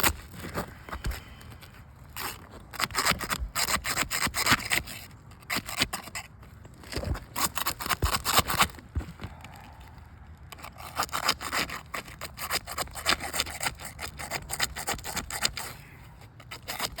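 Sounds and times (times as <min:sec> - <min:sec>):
tool scraping under shingles: 0:00.0 - 0:17.0.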